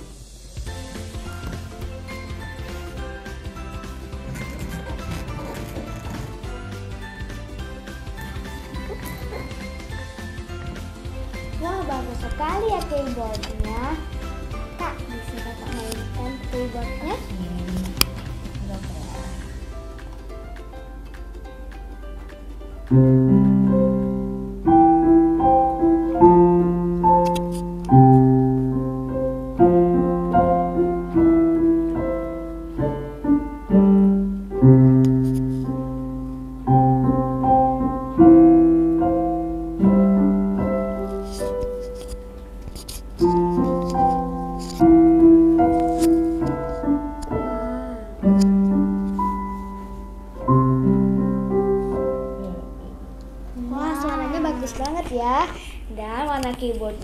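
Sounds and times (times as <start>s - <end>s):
electronic keyboard piano tune: 0.6s - 54.6s.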